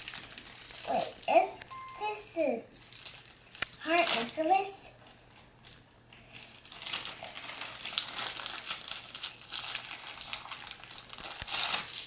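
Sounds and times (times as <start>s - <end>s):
plastic bag crinkling: 0.0s - 2.1s, 2.7s - 12.0s.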